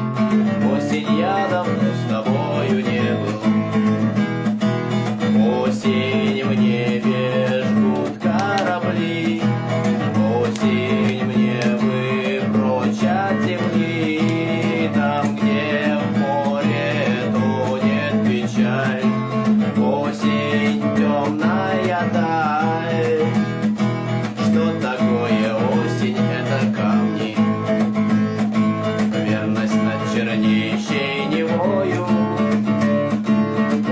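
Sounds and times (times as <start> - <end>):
acoustic guitar playing: 0.0 - 33.9.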